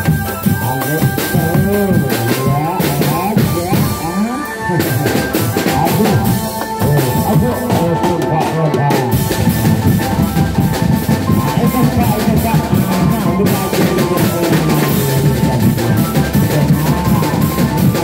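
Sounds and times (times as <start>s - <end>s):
drum band playing fast beat: 0.0s - 18.0s.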